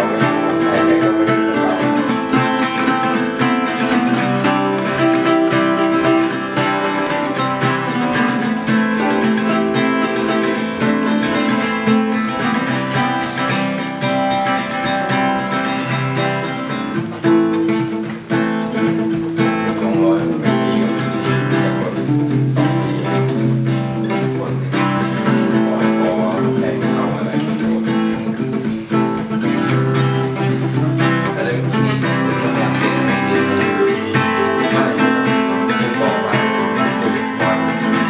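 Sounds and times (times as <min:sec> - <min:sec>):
acoustic guitars playing: 0:00.0 - 0:38.0.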